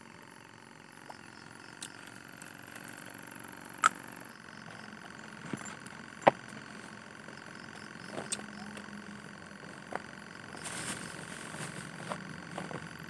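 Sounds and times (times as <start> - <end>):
air pump humming: 0.0 - 13.0.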